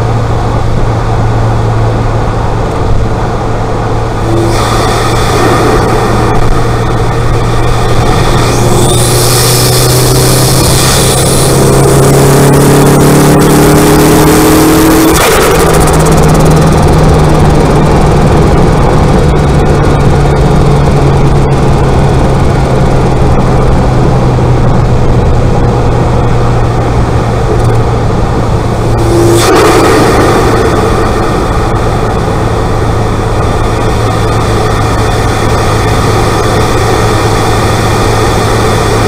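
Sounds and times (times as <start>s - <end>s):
car engine running: 0.0s - 39.0s
high turbo whine: 0.0s - 39.0s.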